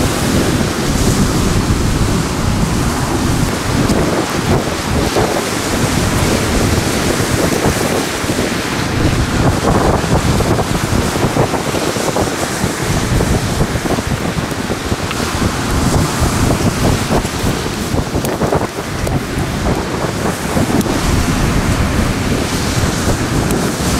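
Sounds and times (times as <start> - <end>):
ocean surf: 0.0 - 23.9
wind buffeting microphone: 0.0 - 23.9.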